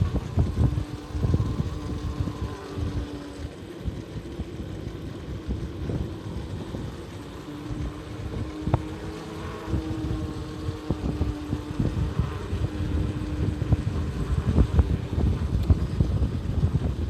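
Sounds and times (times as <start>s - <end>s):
steady hum: 0.0s - 17.0s
vehicle engine and road rumble: 0.0s - 17.0s.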